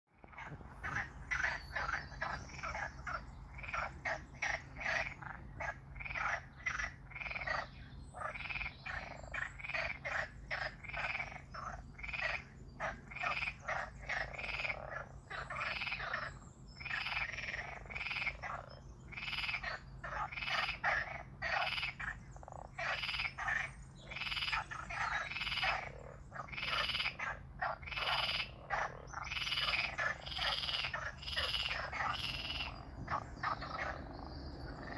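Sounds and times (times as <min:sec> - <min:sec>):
frogs croaking in chorus: 0:00.2 - 0:34.9.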